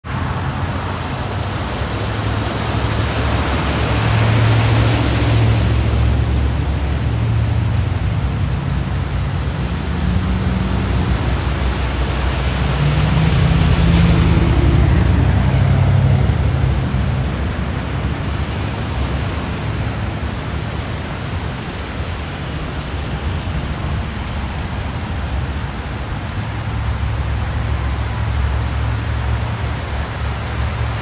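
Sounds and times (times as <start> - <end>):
engines humming: 0.0 - 31.0
vehicles driving through floodwater: 0.0 - 31.0
water spray rushing: 0.2 - 31.0.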